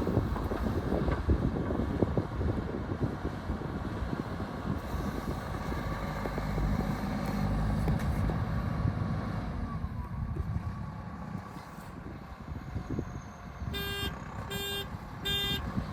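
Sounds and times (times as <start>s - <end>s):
wind buffeting microphone: 0.0s - 13.8s
heavy engine running: 0.0s - 15.9s.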